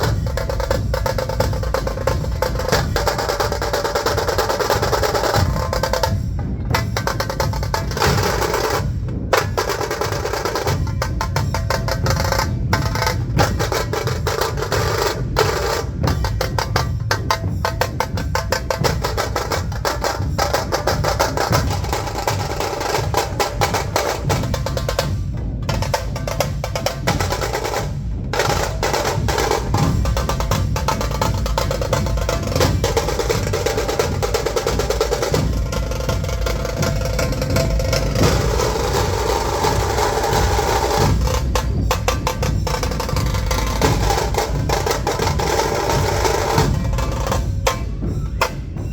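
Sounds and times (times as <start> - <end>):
large drums beating: 0.0 - 48.9
rapid drum rolls: 0.0 - 48.9.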